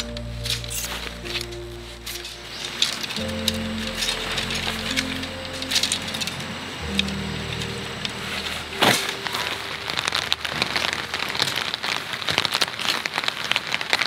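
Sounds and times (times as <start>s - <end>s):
rain falling: 0.0s - 14.0s
raindrops ticking: 0.0s - 14.0s.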